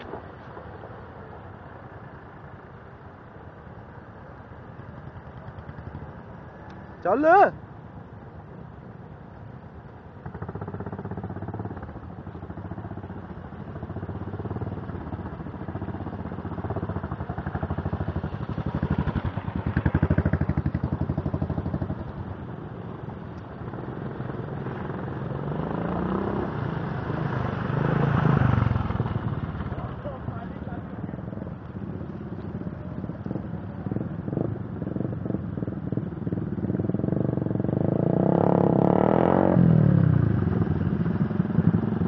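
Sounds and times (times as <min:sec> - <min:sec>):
motorcycle engines passing: 0:00.0 - 0:42.0.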